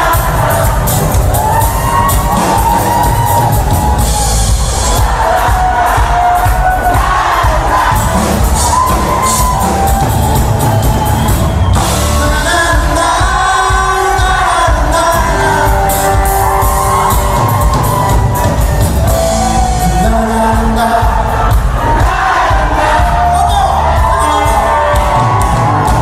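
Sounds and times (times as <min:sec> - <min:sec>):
crowd shouting and cheering: 0:00.0 - 0:26.0
loud pop music with singing: 0:00.0 - 0:26.0.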